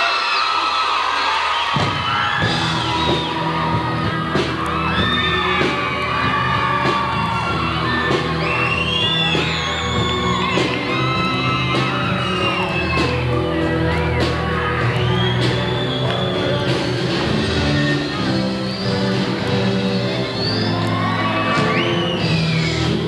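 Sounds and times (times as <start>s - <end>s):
audience whooping and yelling: 0.0s - 23.0s
drum and cymbal hits: 1.7s - 20.4s
live rock band playing: 1.8s - 23.0s.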